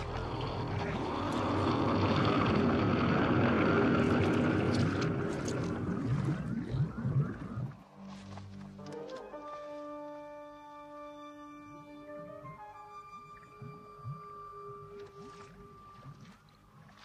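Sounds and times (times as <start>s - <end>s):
low rumble with gurgles: 0.0s - 8.8s, 11.8s - 17.0s.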